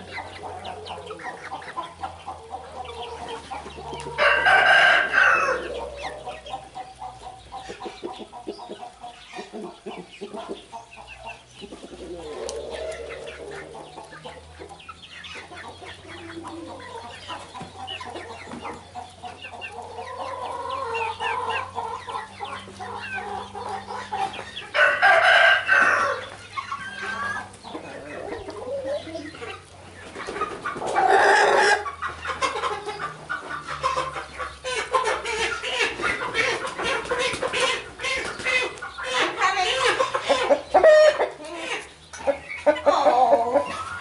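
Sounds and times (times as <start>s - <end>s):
loud chicken calls: 0.0s - 10.7s, 11.6s - 44.0s
young chickens clucking: 0.0s - 44.0s.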